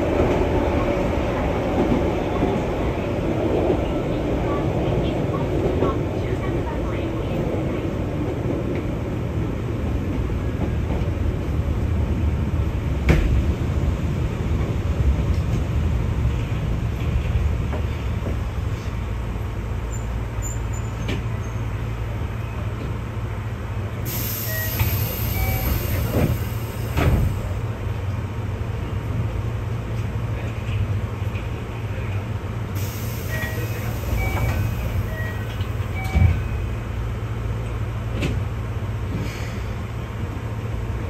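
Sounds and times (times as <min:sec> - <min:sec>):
train wheels and motors rumbling: 0:00.0 - 0:41.0.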